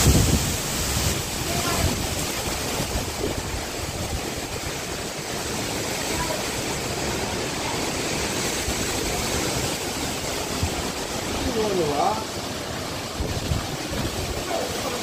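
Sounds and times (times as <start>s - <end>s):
wind buffeting microphone: 0.0s - 5.5s, 8.0s - 15.0s
strong wind roaring: 0.0s - 15.0s.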